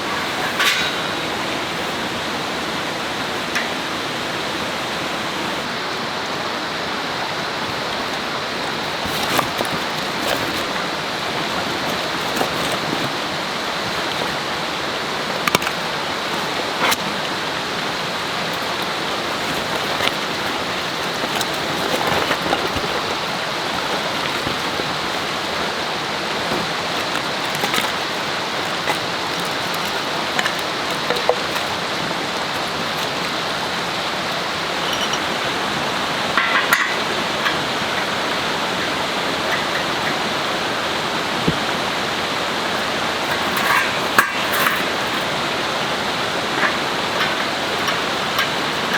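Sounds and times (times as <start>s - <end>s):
river flowing: 0.0s - 48.9s.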